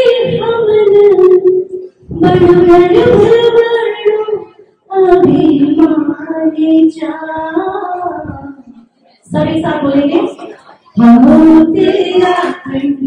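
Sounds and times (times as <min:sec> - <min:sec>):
woman singing into a microphone: 0:00.0 - 0:13.0.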